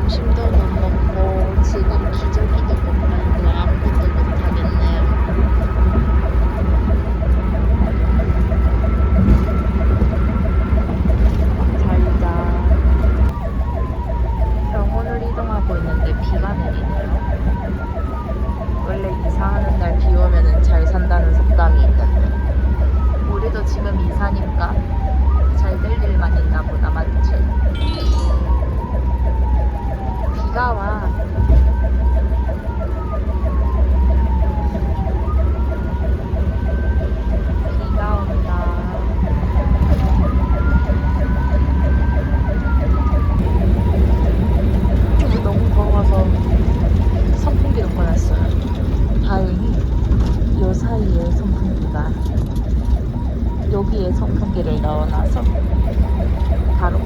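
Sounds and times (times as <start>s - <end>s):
ambulance siren wailing: 0.0s - 57.0s
engine and road rumble: 0.0s - 57.0s.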